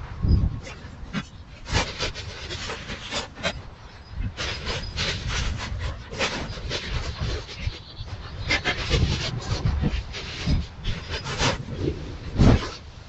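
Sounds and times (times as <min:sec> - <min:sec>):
animal sniffing: 0:00.6 - 0:12.0.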